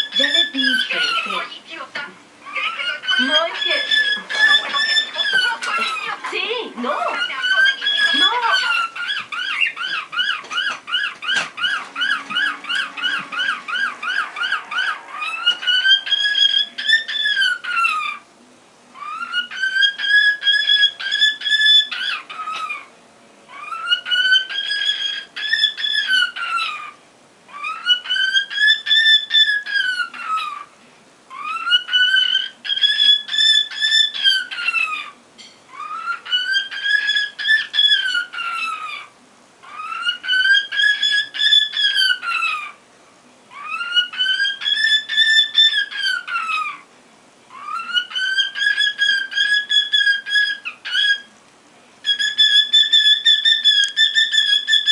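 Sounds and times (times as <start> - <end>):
cockatiel whistling: 0.0 - 1.5, 2.5 - 6.2, 7.1 - 18.2, 19.0 - 22.9, 23.5 - 30.7, 31.3 - 42.8, 43.5 - 46.8, 47.5 - 51.3, 52.0 - 54.9.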